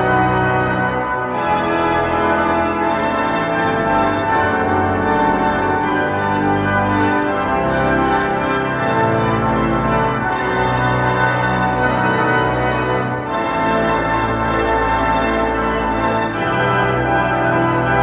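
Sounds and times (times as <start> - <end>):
pipe organ playing chords: 0.0 - 18.0.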